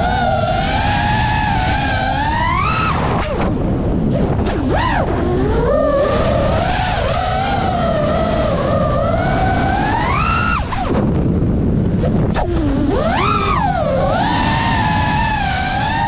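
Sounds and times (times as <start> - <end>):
drone motors whining: 0.0 - 16.0
low wind rush: 0.0 - 16.0.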